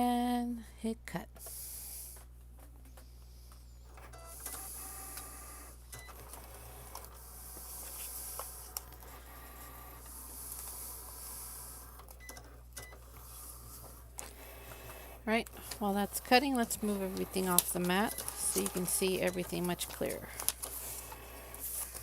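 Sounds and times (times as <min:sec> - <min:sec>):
cutting machine motors whirring: 0:03.9 - 0:22.0.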